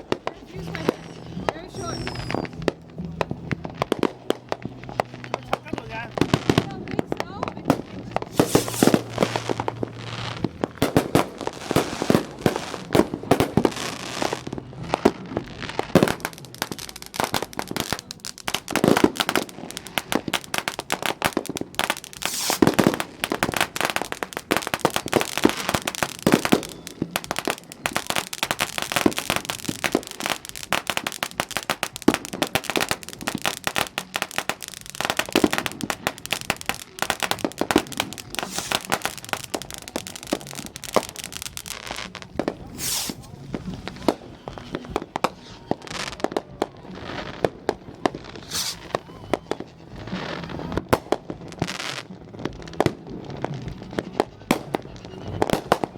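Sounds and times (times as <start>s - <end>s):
fireworks popping and crackling: 0.0s - 55.9s
loud firework bangs: 0.0s - 55.9s.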